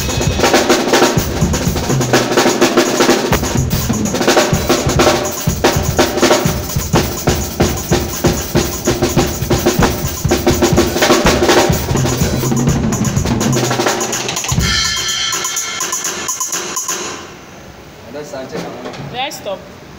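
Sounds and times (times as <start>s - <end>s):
fast drum kit playing: 0.0s - 17.5s.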